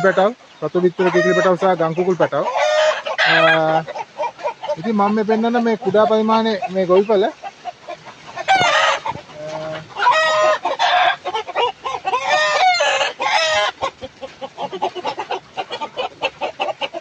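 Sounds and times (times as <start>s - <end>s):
chickens clucking and squawking: 0.0s - 17.0s.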